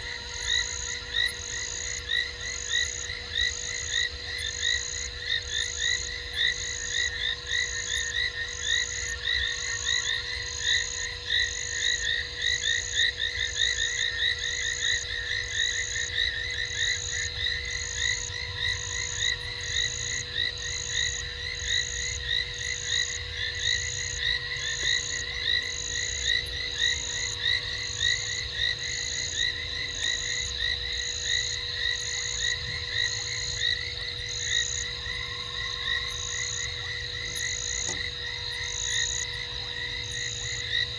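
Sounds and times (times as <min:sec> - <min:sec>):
faint steady hum: 0:00.0 - 0:40.9
frogs trilling: 0:00.0 - 0:40.9.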